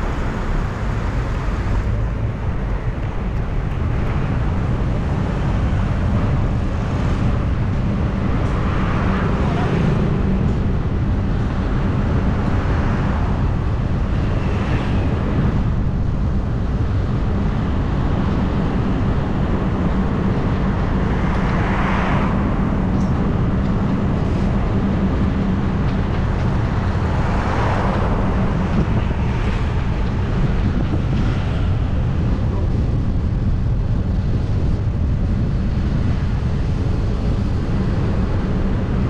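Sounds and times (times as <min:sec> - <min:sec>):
vehicle driving drone: 0:00.0 - 0:39.0
wind rushing over microphone: 0:00.0 - 0:39.0.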